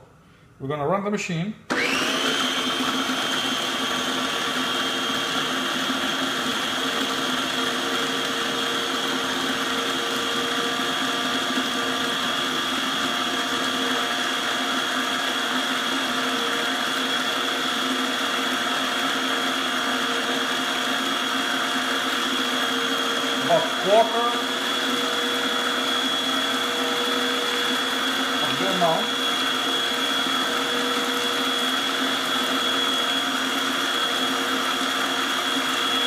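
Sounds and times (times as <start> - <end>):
food processor motor whine: 1.7 - 36.0.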